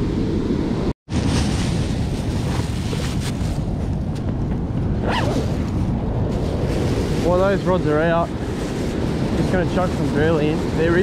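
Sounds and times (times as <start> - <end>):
breaking surf: 0.0 - 4.0, 5.0 - 11.0
wind buffeting microphone: 0.0 - 11.0.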